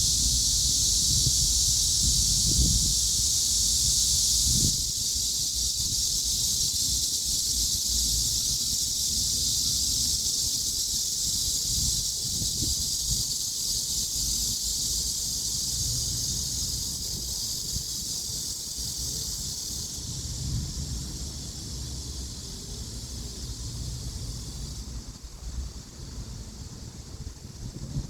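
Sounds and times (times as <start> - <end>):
cicadas hissing: 0.0 - 28.0.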